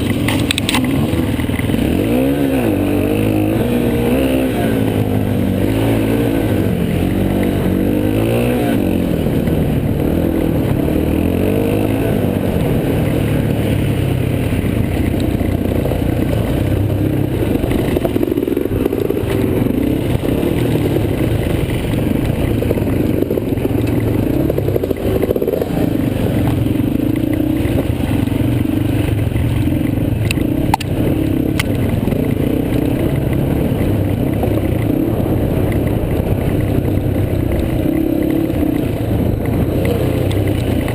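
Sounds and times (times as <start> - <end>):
bike rattling: 0.0 - 40.9
dirt bike engine revving: 0.0 - 40.9.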